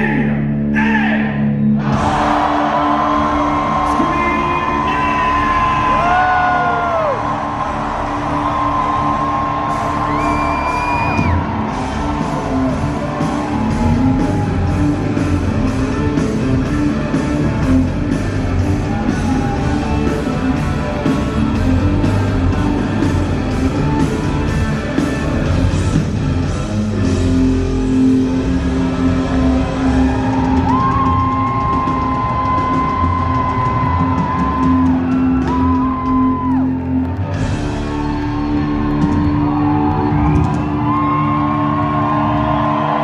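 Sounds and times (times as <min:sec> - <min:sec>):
live rock band playing: 0:01.8 - 0:43.0.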